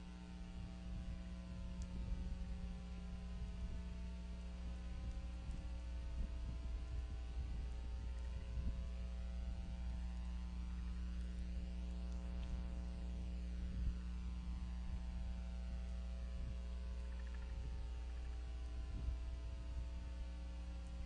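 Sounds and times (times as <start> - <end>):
electrical mains hum: 0.0 - 21.0
faint low thumps: 0.0 - 21.0.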